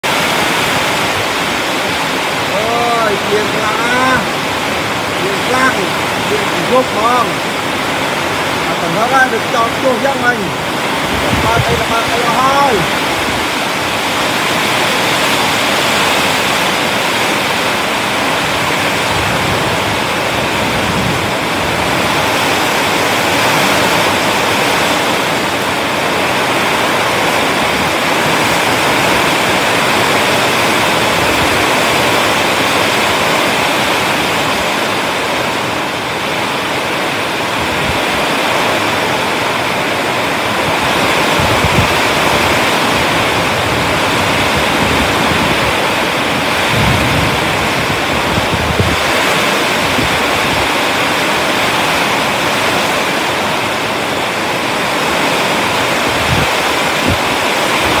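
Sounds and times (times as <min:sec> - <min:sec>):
heavy rain pouring: 0:00.0 - 0:58.0
wind gusts: 0:00.0 - 0:58.0.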